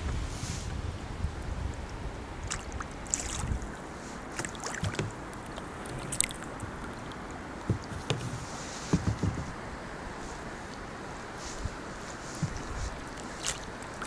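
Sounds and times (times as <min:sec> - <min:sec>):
wind rumble on microphone: 0:00.0 - 0:14.0
kayak paddle splashing: 0:02.4 - 0:14.0.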